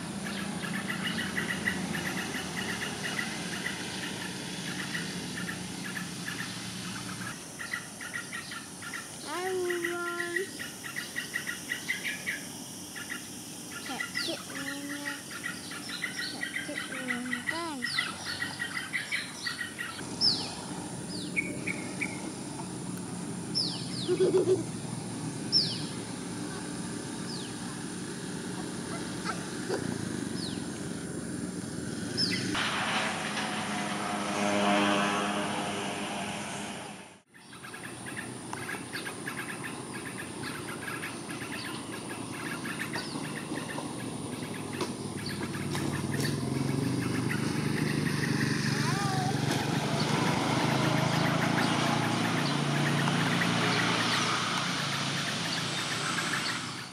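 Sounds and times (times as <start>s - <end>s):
passing engine: 0.0s - 56.9s.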